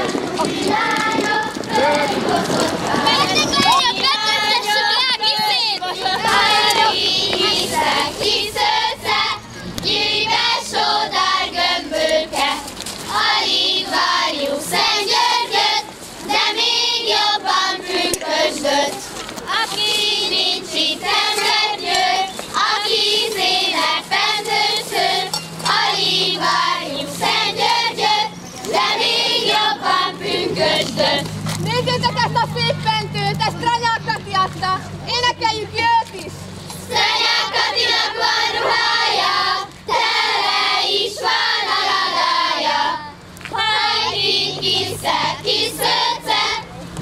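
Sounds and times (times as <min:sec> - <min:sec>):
girls singing folk song: 0:00.0 - 0:31.7, 0:36.7 - 0:46.8.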